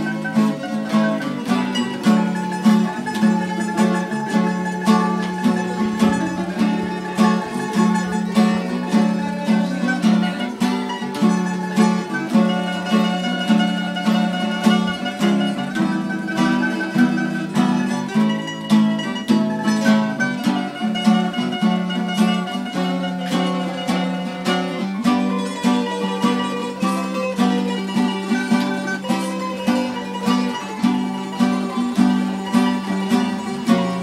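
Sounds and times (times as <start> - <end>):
plucked string ensemble: 0.0 - 34.0.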